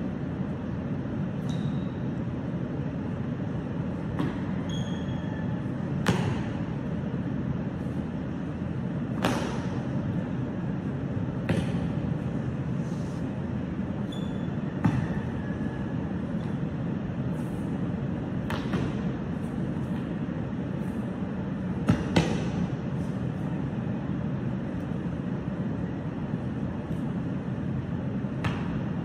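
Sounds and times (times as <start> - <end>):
room hum: 0.0 - 29.0.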